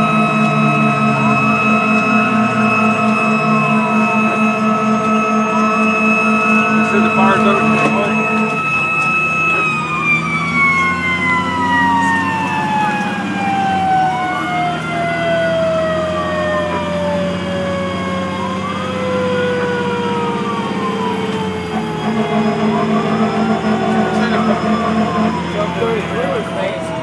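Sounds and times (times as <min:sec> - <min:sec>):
steady high siren sliding down: 0:00.0 - 0:27.0
truck engine humming: 0:00.0 - 0:27.0
wailing siren: 0:00.0 - 0:27.0.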